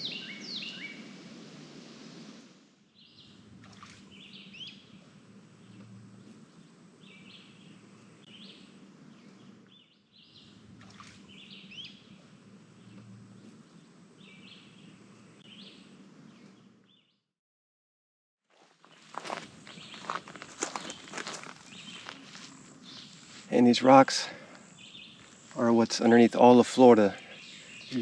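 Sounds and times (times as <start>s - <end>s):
small birds chirping: 0.0s - 1.1s, 2.9s - 17.2s, 18.8s - 28.0s
faint outdoor hum: 0.0s - 17.0s, 18.6s - 28.0s.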